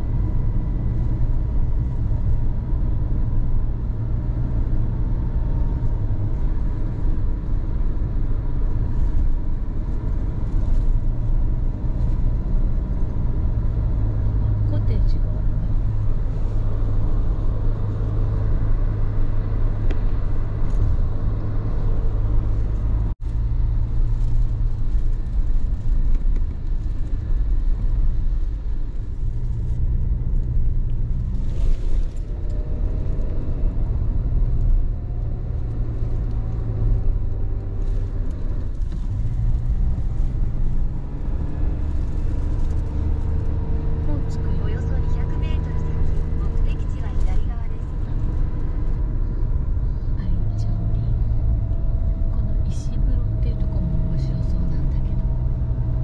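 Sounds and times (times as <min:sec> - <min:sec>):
engine and road rumble: 0:00.0 - 0:56.0.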